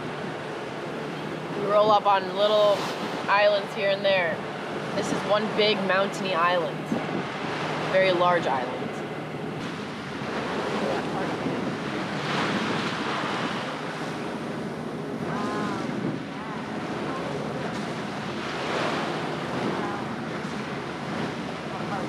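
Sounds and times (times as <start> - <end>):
water splashing along boat hull: 0.0 - 22.0
wind buffeting microphone: 0.0 - 22.0.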